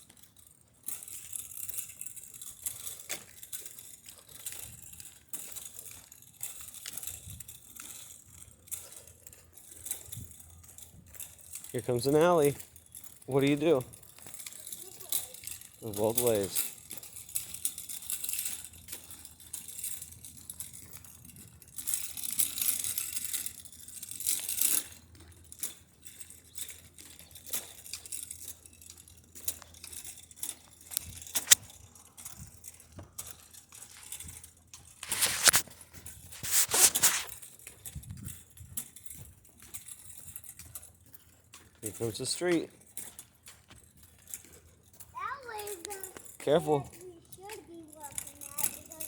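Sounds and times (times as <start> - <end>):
rustling scraping noise: 0.3 - 49.0.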